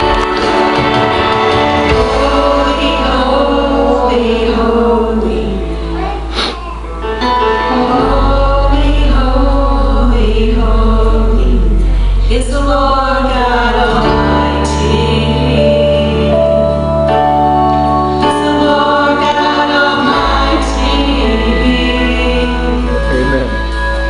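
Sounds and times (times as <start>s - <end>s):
boy and woman singing: 0.0s - 6.5s, 7.5s - 16.8s, 18.2s - 23.5s
instrumental accompaniment: 0.0s - 24.0s
low bass notes: 0.0s - 24.0s.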